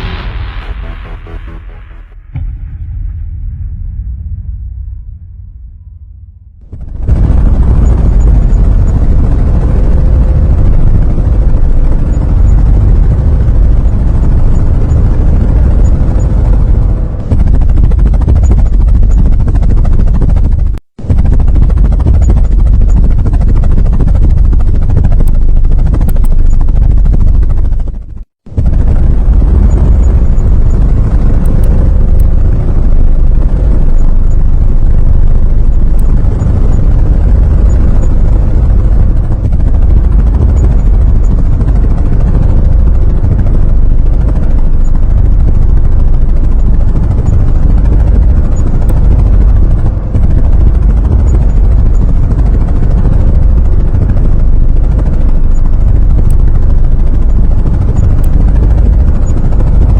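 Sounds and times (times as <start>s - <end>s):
helicopter rotor and engine: 6.6s - 59.9s.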